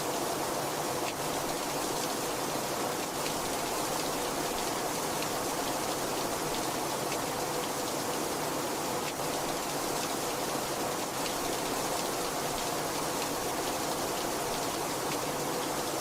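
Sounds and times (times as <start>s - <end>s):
very heavy rain falling: 0.0s - 16.0s.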